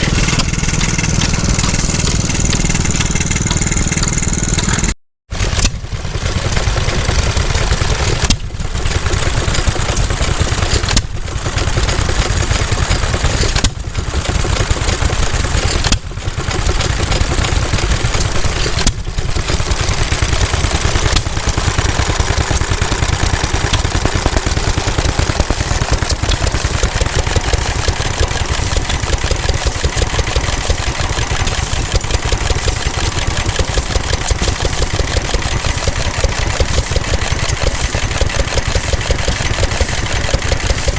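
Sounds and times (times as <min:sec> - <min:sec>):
stationary engines running: 0:00.0 - 0:40.9.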